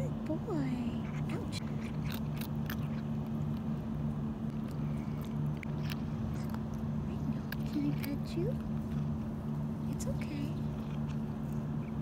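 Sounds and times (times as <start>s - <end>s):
steady low hum: 0.0s - 12.0s
cat crunching a treat: 0.9s - 12.0s.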